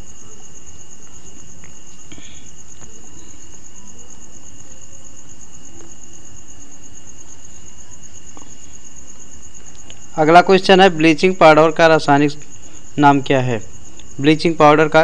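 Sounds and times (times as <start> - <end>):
cricket chirping: 0.0 - 15.0
low background hiss: 0.0 - 15.0.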